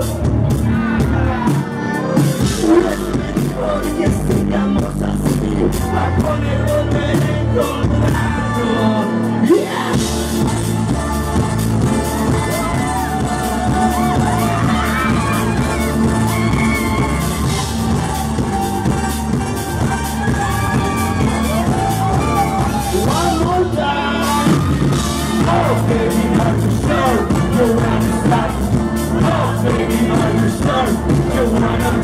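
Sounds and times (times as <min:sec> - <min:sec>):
person singing: 0:00.0 - 0:19.1, 0:19.8 - 0:32.0
live band music: 0:00.0 - 0:32.0
steady drum beat: 0:00.0 - 0:32.0
accordion: 0:01.3 - 0:32.0.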